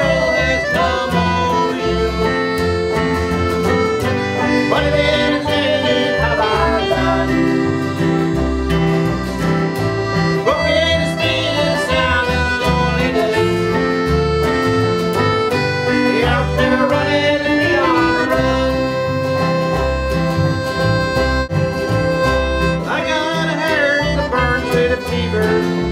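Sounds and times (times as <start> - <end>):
guitar: 0.0 - 25.9
lead melody line: 0.0 - 25.9
pulsing bass: 0.0 - 25.9.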